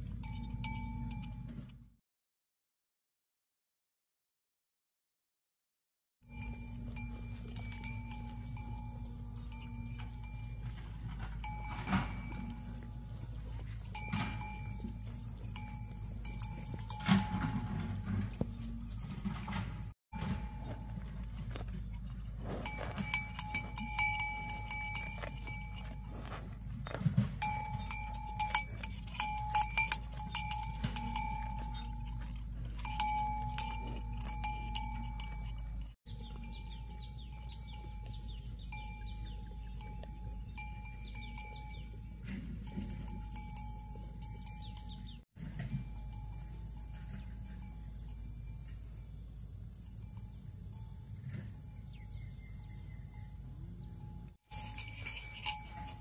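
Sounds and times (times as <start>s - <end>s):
cowbell clanking: 0.0s - 1.7s, 6.3s - 21.6s, 22.4s - 49.2s, 49.8s - 56.0s.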